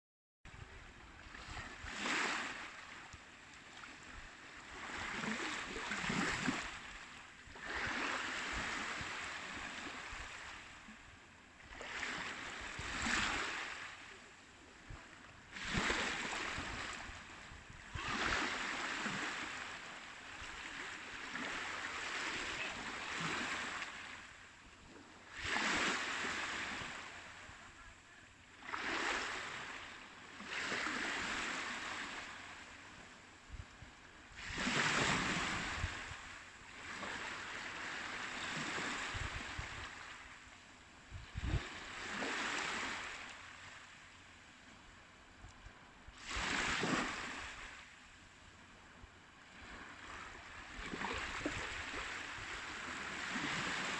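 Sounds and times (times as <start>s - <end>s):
sea waves breaking: 0.6s - 44.3s, 46.2s - 48.2s, 49.4s - 53.9s.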